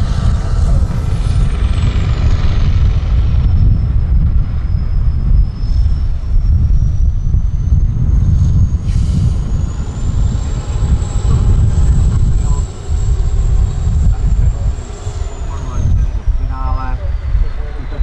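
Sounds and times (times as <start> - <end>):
thin high whine: 0.0 - 18.0
truck engine rumbling under load: 0.0 - 18.0.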